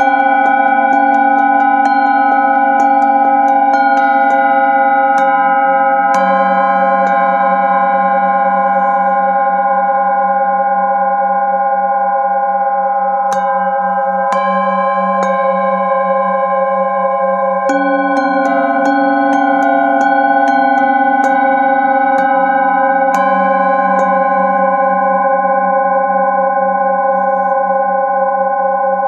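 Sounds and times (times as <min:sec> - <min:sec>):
singing bowl rim rubbed: 0:00.0 - 0:10.9, 0:12.3 - 0:29.0
singing bowls struck: 0:00.0 - 0:29.0.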